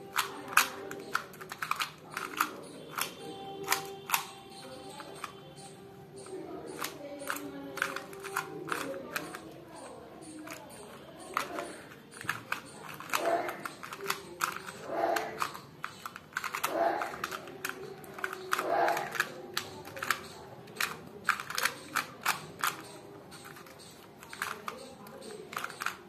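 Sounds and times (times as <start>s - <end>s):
puzzle cube clicking: 0.0s - 26.0s.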